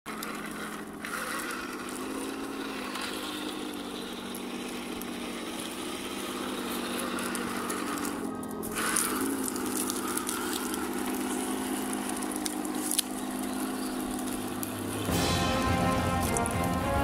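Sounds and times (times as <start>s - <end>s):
model motors and tracks: 0.0s - 17.0s
simulated tank engine hum: 0.0s - 17.0s.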